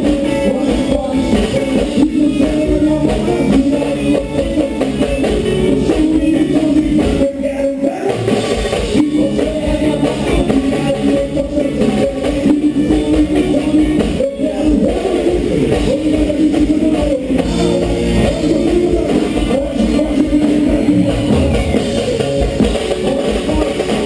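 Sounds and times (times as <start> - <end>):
live band playing: 0.0 - 24.0
person singing: 0.0 - 24.0.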